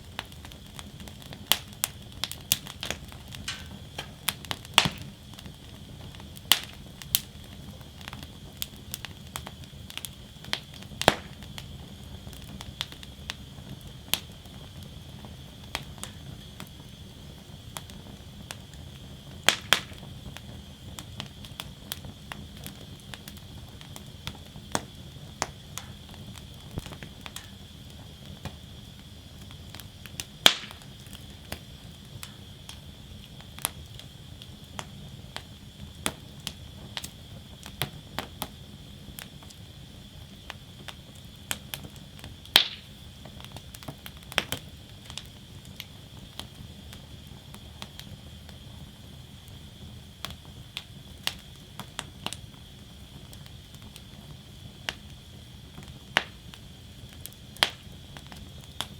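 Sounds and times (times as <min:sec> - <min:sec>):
sharp pops of fire: 0:00.0 - 0:58.9
wood fire crackling: 0:00.0 - 0:58.9.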